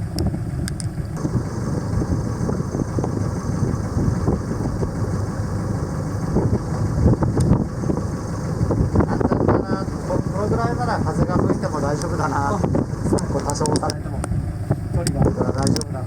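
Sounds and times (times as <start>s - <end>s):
boat engine rumbling: 0.0s - 16.0s
wind buffeting microphone: 0.0s - 16.0s.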